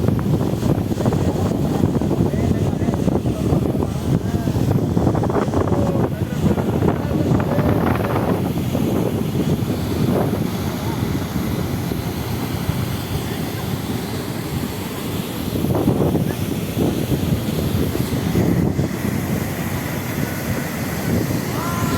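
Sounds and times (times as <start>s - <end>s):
waterfall rushing: 0.0s - 21.9s
wind buffeting microphone: 0.0s - 21.9s.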